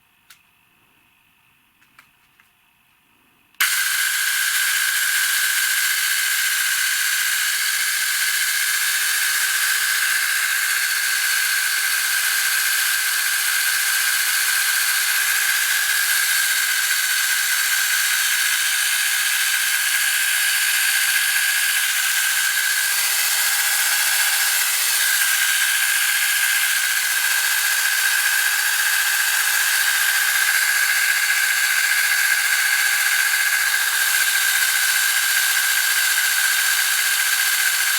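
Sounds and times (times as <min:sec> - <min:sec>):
electric chainsaw running: 0:03.6 - 0:37.9.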